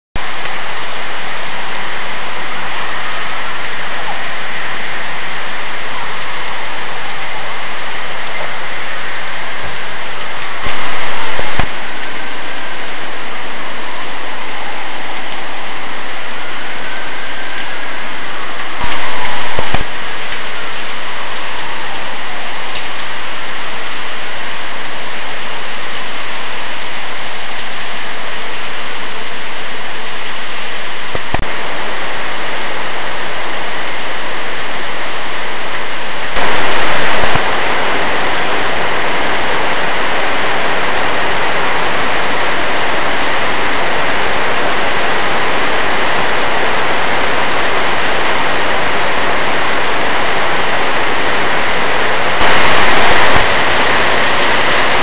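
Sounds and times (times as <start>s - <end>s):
heavy rain pouring: 0.2s - 55.0s.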